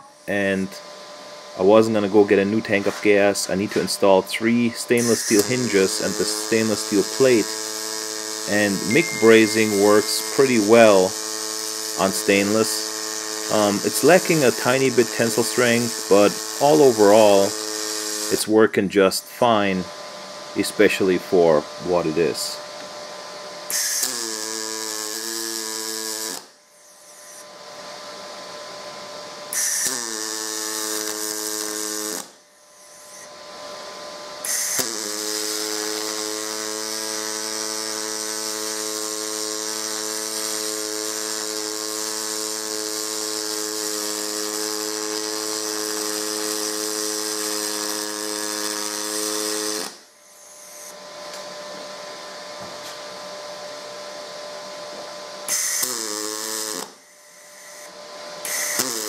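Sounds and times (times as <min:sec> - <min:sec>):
welding arc pulsing buzz: 0:00.0 - 0:59.0.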